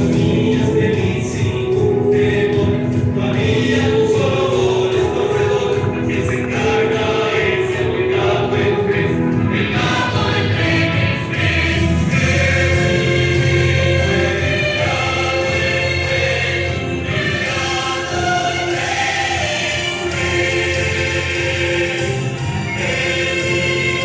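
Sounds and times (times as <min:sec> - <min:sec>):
choir singing: 0:00.0 - 0:24.0
musical theatre instrumental backing: 0:00.0 - 0:24.0.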